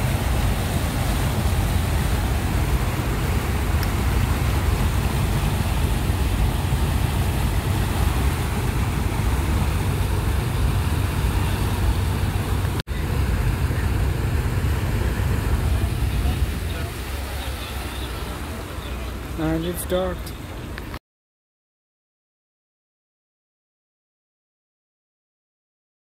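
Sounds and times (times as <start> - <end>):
propeller churning water: 0.0 - 21.0
ship engine low rumble: 0.0 - 21.0.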